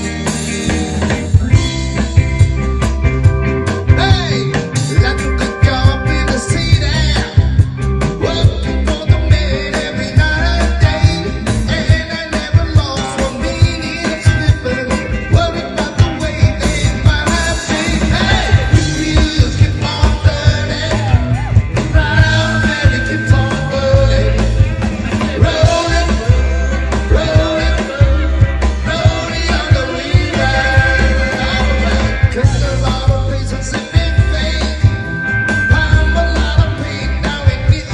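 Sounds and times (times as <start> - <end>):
band playing a song: 0.0 - 37.9
steady drum beat: 0.0 - 37.9
person singing: 3.9 - 37.9.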